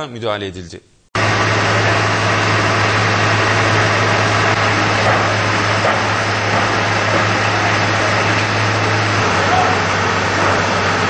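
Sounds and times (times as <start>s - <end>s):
fire engine humming: 1.2s - 11.0s.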